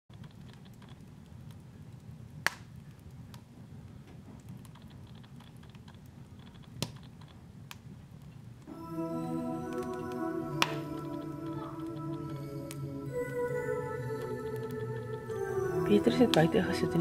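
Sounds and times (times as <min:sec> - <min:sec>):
fire crackling and popping: 0:00.1 - 0:17.0
fire rumbling: 0:00.1 - 0:17.0.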